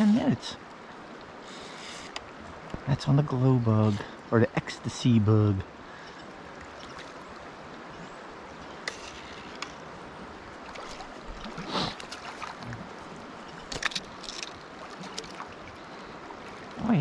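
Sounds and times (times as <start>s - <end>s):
river current rushing: 0.0s - 17.0s
water splashes: 0.0s - 17.0s.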